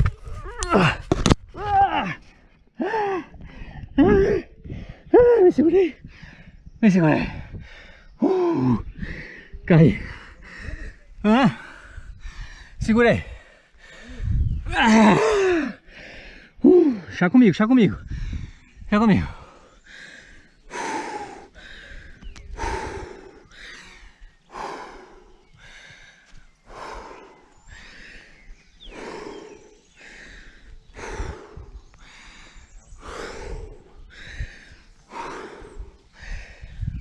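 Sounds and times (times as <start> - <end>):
person breathing hard: 2.8 - 5.1, 5.9 - 17.1, 18.0 - 37.0.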